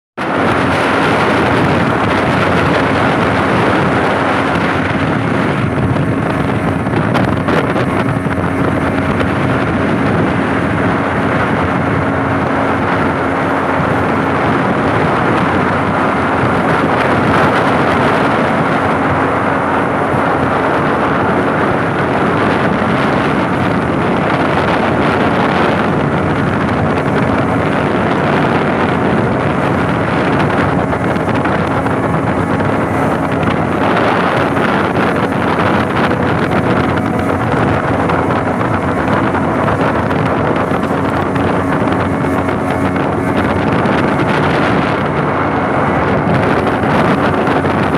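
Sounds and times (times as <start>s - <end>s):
outboard motor running: 0.2s - 47.9s
wind buffeting microphone: 0.2s - 47.9s.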